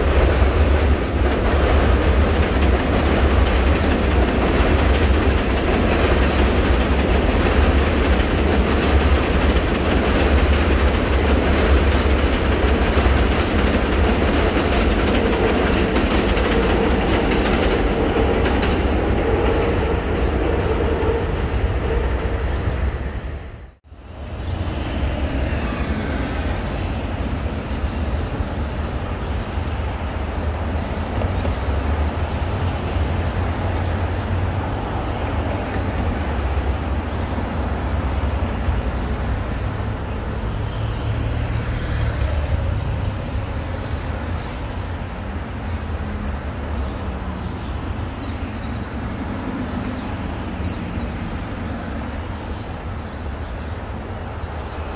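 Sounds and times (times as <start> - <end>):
elevated train on steel structure: 0.0 - 54.9
street traffic: 0.0 - 54.9.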